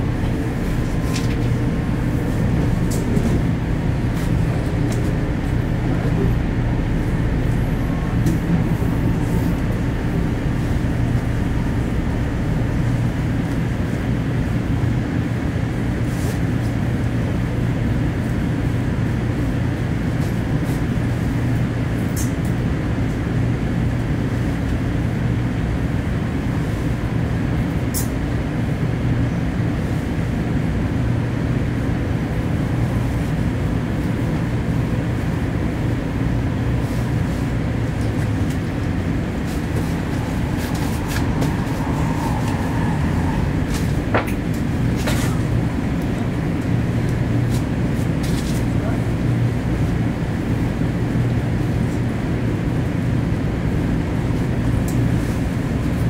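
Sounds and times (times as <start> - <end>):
train rumbling from inside carriage: 0.0 - 56.0.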